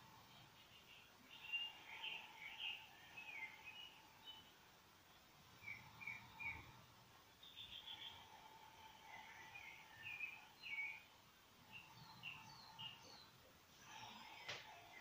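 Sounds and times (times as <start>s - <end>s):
faint bird chirping: 0.0s - 15.0s
faint steady hum: 0.0s - 15.0s.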